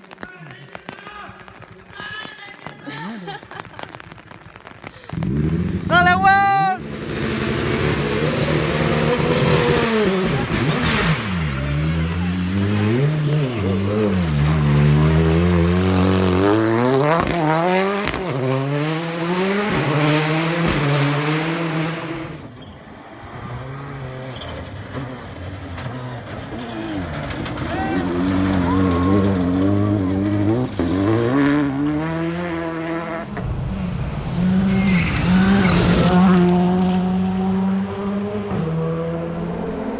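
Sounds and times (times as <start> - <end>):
rally car engine revving: 5.1 - 39.9.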